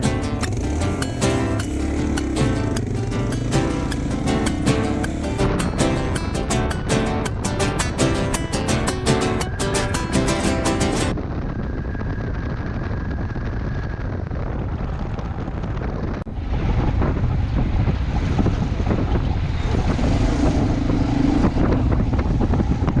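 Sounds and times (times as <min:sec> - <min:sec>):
low vehicle rumble: 0:00.0 - 0:23.0
wind buffeting microphone: 0:00.0 - 0:23.0.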